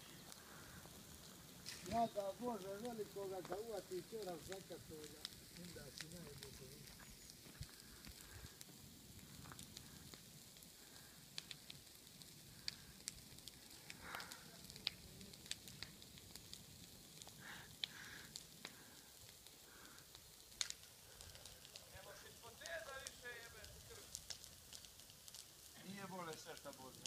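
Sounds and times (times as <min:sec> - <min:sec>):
fire crackling: 0:00.0 - 0:27.0
low steady background noise: 0:00.0 - 0:27.0.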